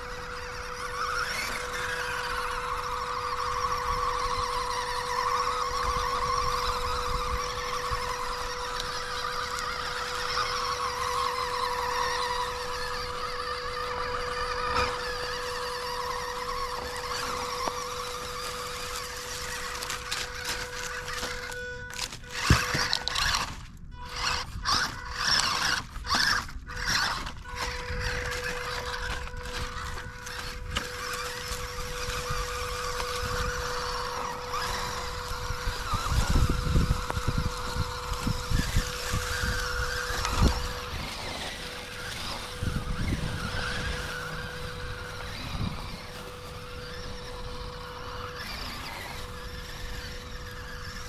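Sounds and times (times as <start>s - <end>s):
toy truck motor whining: 0.0s - 51.0s.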